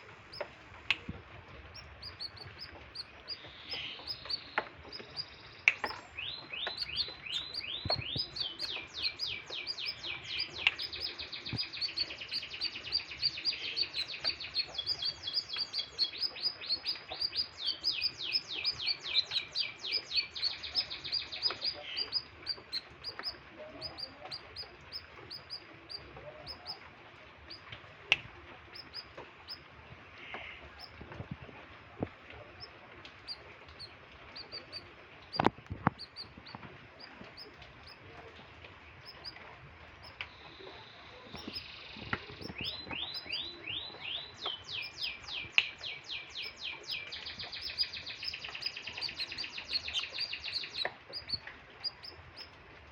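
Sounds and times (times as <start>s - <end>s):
canary singing: 0.3s - 26.8s, 28.7s - 31.0s, 32.6s - 38.1s, 39.0s - 39.4s, 40.0s - 52.6s.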